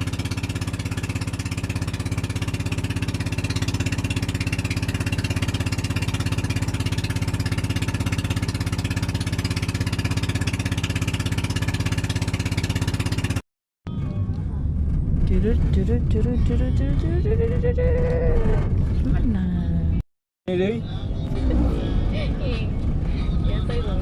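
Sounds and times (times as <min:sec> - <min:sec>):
motor engine running: 0:00.0 - 0:20.0, 0:20.8 - 0:24.0.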